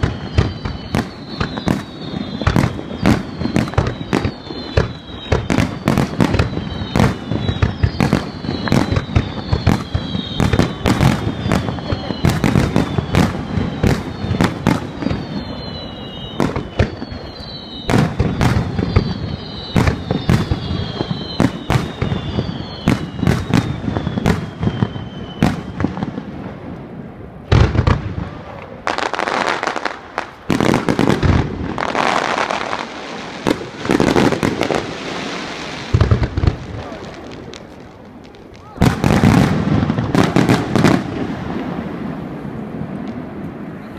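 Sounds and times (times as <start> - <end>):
falling firework whistles: 0.0 - 26.6, 27.4 - 43.9
fireworks bursting: 0.0 - 43.9
fireworks crackling: 0.0 - 43.9.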